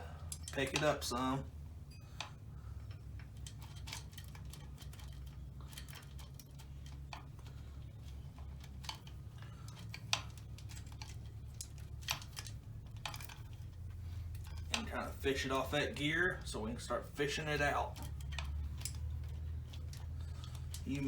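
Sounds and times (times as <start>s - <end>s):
metallic clicks of timing chain: 0.1s - 1.3s, 1.9s - 21.0s.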